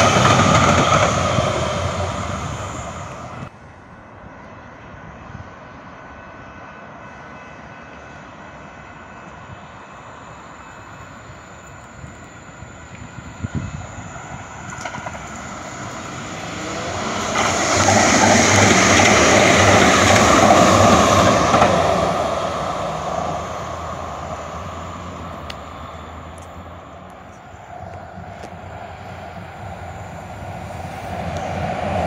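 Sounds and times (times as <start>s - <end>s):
train passing with low clatter: 0.0s - 32.0s.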